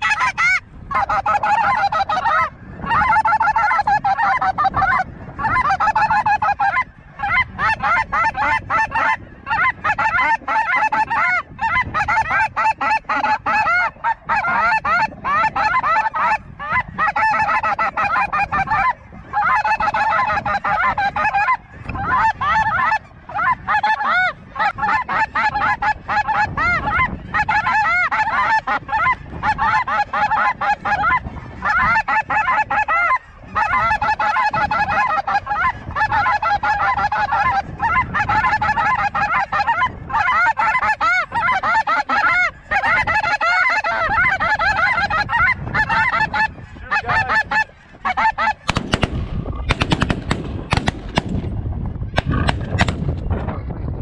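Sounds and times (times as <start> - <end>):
geese honking: 0.0 - 51.4.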